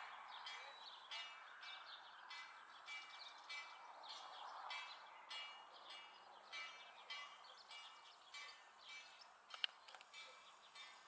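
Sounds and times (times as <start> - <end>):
birds chirping: 0.0 - 11.0
distant train: 0.0 - 11.0.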